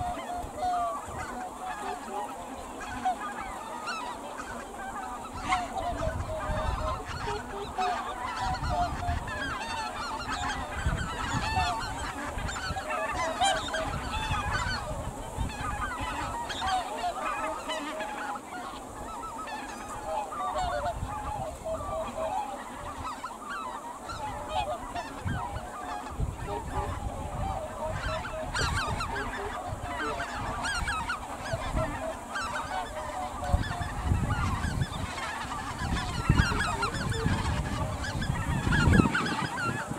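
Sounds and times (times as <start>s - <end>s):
geese calling: 0.0s - 39.9s.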